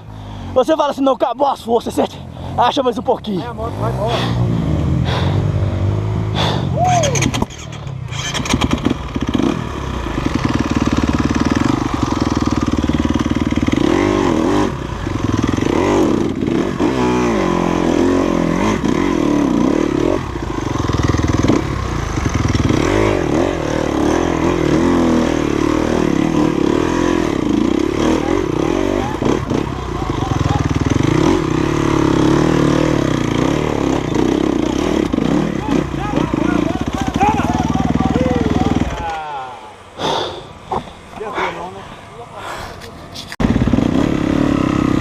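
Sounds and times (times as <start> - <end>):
dirt bike engine revving: 2.4 - 40.6, 43.4 - 45.0.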